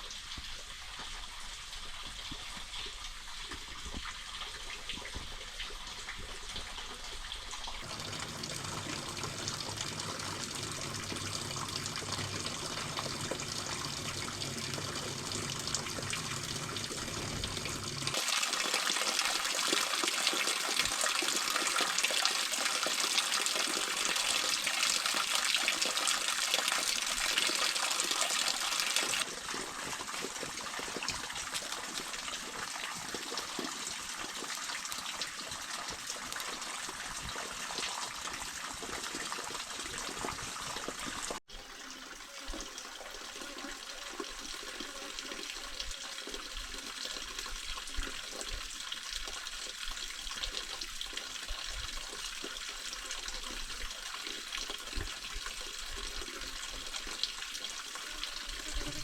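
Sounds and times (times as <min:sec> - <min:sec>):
running water gushing: 0:07.8 - 0:59.0.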